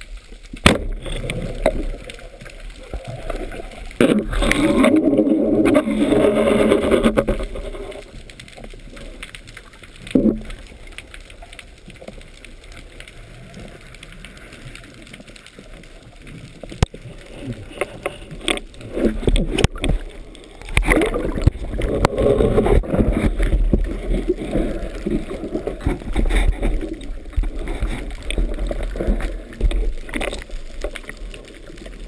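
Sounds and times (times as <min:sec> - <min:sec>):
water rushing and gurgling: 0:00.0 - 0:32.0.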